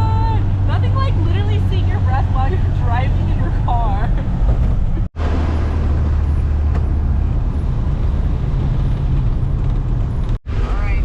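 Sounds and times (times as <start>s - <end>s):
engine running while driving: 0.0s - 11.0s
road noise: 0.0s - 11.0s.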